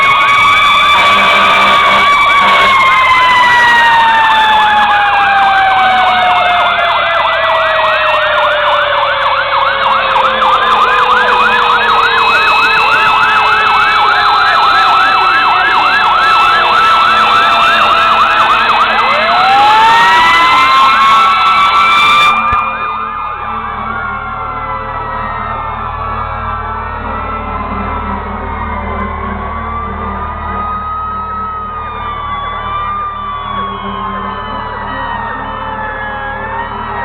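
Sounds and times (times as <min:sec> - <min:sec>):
siren fast yelp: 0:00.0 - 0:37.0
siren wailing: 0:00.0 - 0:37.0.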